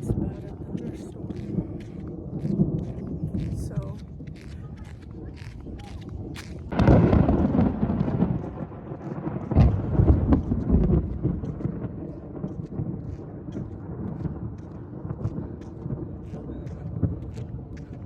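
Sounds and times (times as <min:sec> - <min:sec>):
thunder crack and rumble: 0:00.0 - 0:18.0.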